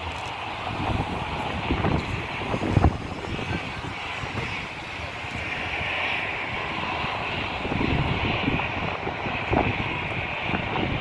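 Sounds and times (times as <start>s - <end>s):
distant airliner engine whine: 0.0s - 11.0s.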